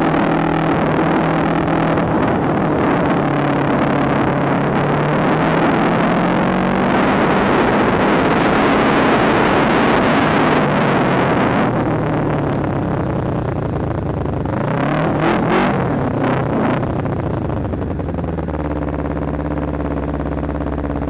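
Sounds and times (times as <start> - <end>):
motorcycle engine running: 0.0 - 21.0
road noise: 0.0 - 21.0
wind noise: 0.0 - 21.0.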